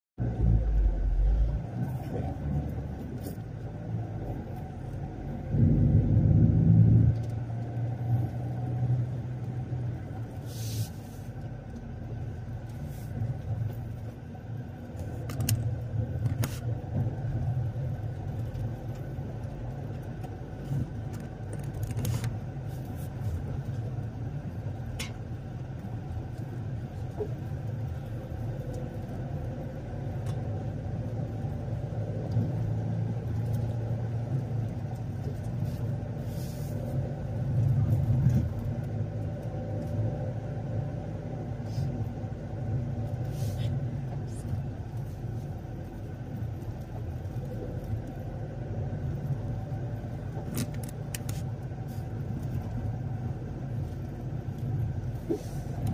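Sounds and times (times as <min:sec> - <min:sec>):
low rumble: 0:00.2 - 0:55.9
road noise: 0:00.2 - 0:55.9
vehicle engine droning: 0:00.2 - 0:55.9.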